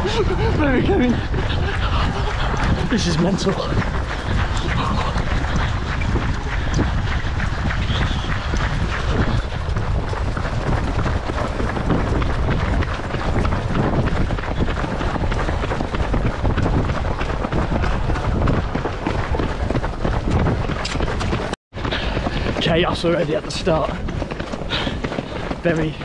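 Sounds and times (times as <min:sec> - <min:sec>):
runners' footsteps: 0:00.0 - 0:26.0
wind rumbling on microphone: 0:00.0 - 0:26.0.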